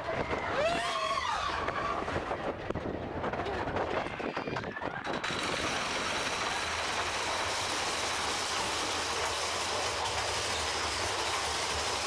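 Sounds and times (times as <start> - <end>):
roller coaster wheels rumbling and rattling: 0.0 - 12.0.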